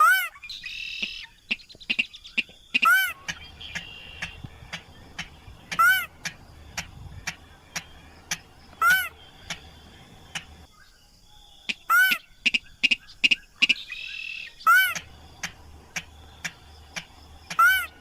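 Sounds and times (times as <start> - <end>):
bird loud arched calls: 0.0 - 10.7, 11.6 - 15.6, 16.3 - 18.0
bird ticking notes: 0.6 - 10.7, 11.7 - 18.0.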